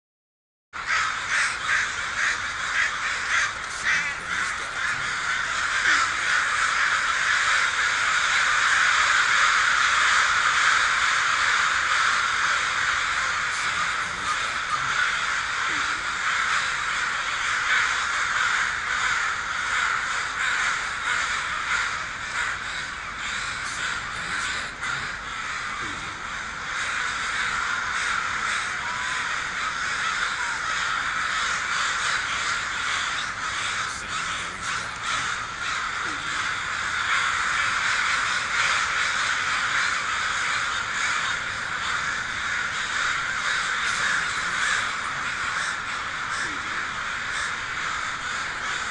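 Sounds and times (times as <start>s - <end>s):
flock of crows cawing: 0.8s - 48.9s.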